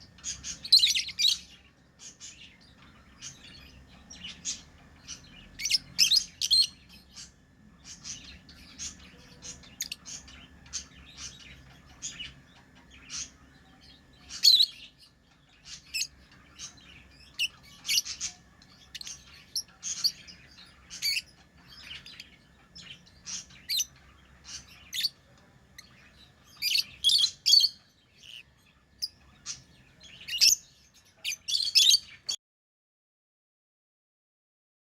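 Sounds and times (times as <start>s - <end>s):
lovebirds chirping: 0.0s - 32.4s.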